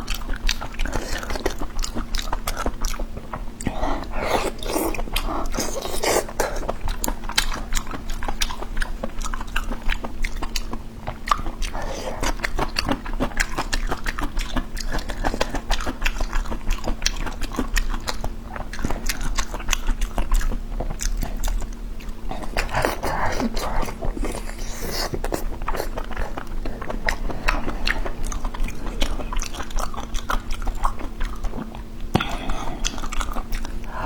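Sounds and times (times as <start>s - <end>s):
chewing and biting: 0.0s - 34.0s.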